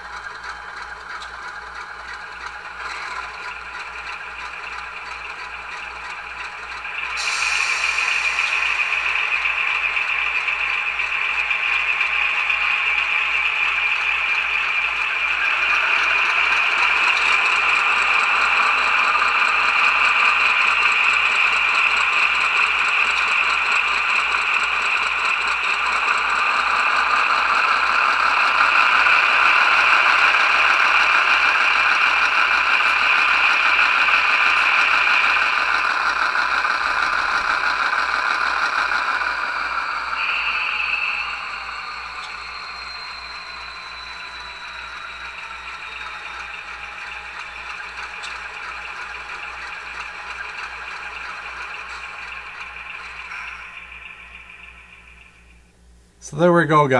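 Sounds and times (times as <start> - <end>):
model locomotive diesel engine sound: 0.0 - 56.9.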